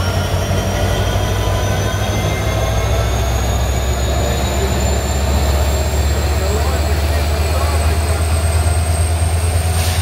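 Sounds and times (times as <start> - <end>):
diesel locomotive low rumble: 0.0 - 10.0.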